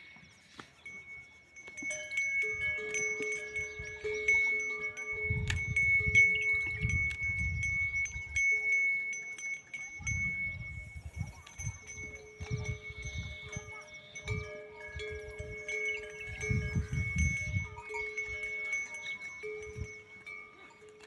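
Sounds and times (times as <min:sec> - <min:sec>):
cattle bells clanking: 0:00.0 - 0:21.0.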